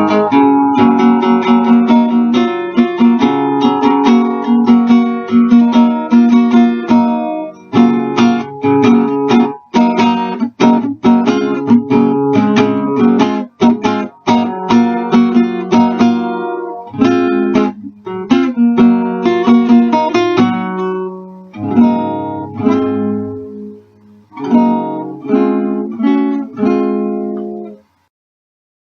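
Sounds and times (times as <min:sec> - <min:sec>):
acoustic guitar chords: 0:00.0 - 0:28.1.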